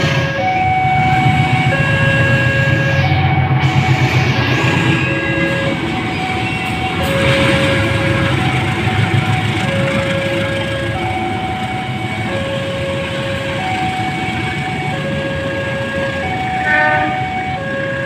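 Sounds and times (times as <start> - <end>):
locomotive engine rumbling: 0.0 - 18.0
two-tone level-crossing alarm: 0.0 - 18.0.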